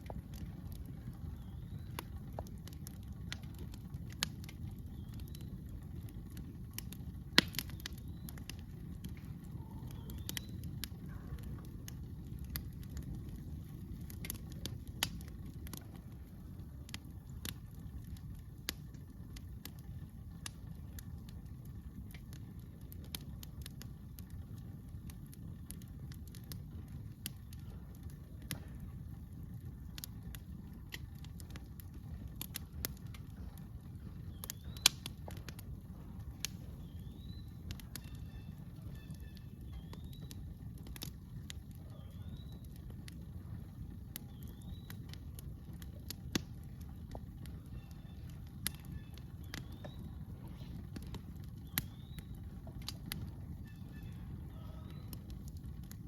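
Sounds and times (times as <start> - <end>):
campfire crackling and popping: 0.0 - 56.0
steady low rumble: 0.0 - 56.0.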